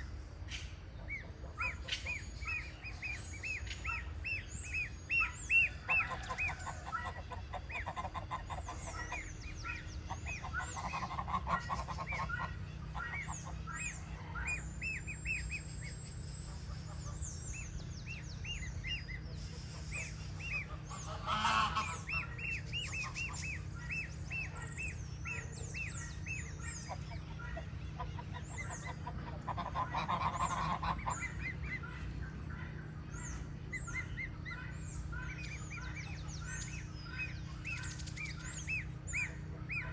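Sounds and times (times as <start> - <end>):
goslings peeping: 0.0 - 39.9
rapid chattering calls: 0.4 - 39.9.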